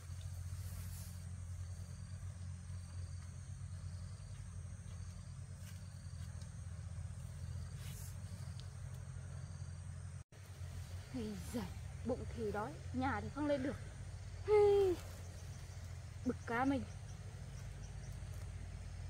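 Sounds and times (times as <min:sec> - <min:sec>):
insects chirring: 0:00.0 - 0:19.0
low hum: 0:00.0 - 0:19.0.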